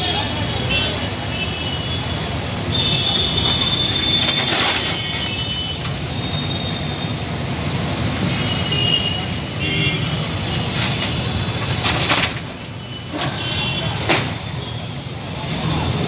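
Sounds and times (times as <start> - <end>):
street noise: 0.0 - 16.0
vehicle engines: 0.0 - 16.0.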